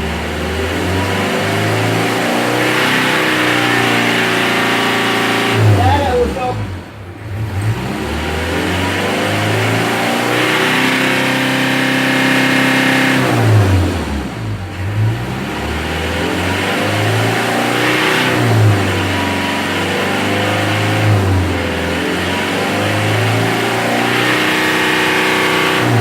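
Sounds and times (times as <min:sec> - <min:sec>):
diesel engine revving: 0:00.0 - 0:26.0.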